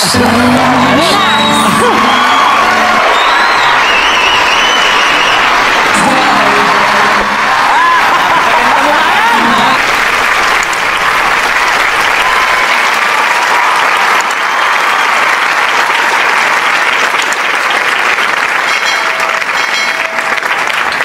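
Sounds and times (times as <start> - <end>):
audience applause: 0.0 - 21.0.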